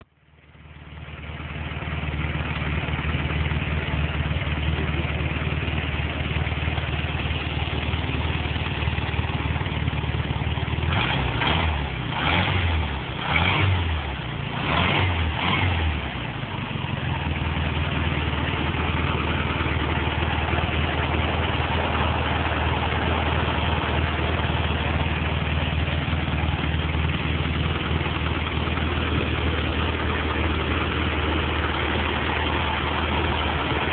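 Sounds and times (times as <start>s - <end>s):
car engine idling: 0.0s - 33.9s
engine throttle blips: 0.0s - 33.9s.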